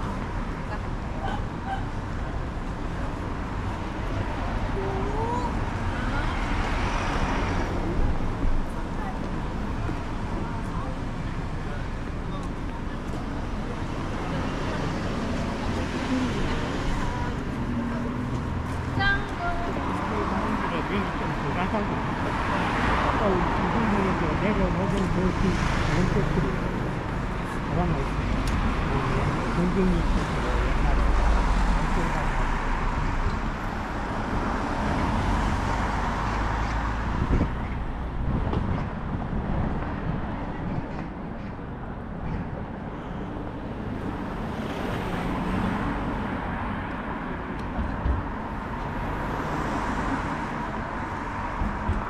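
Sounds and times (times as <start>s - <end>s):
faint voices of passers-by: 0.0s - 52.0s
road traffic hum: 0.0s - 52.0s.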